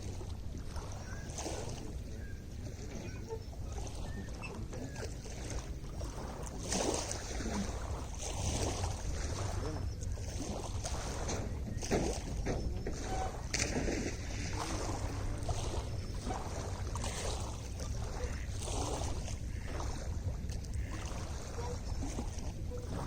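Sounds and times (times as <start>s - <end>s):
water lapping and splashing: 0.0s - 23.0s
wind on microphone: 0.0s - 23.0s.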